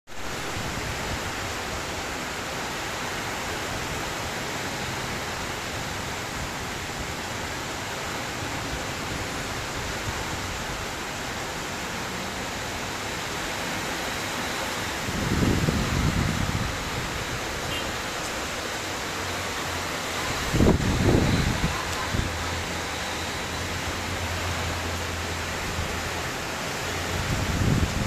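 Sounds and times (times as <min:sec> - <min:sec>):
heavy rain in strong wind: 0:00.1 - 0:28.0.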